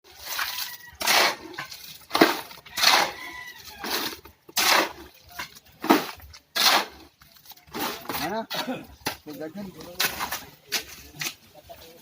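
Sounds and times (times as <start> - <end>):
shovel scraping wet concrete: 0.1 - 12.0.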